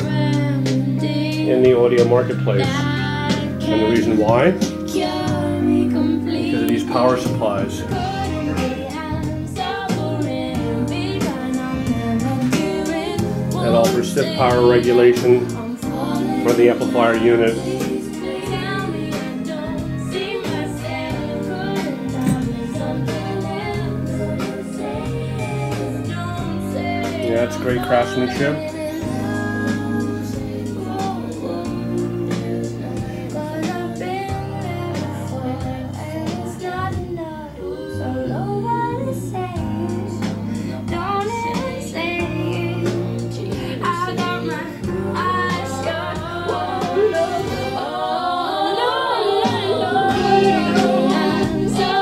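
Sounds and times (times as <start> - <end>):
person singing: 0.0 - 52.0
sung melody with guitar and bass: 0.0 - 52.0.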